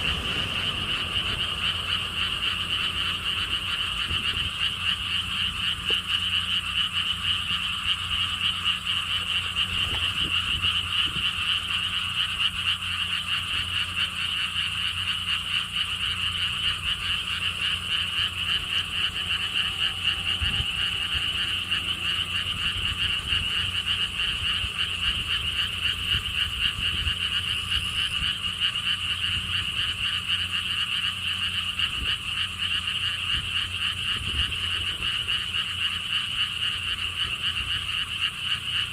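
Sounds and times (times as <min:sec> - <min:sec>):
frogs croaking in chorus: 0:00.0 - 0:38.9
low steady rumble: 0:00.0 - 0:38.9.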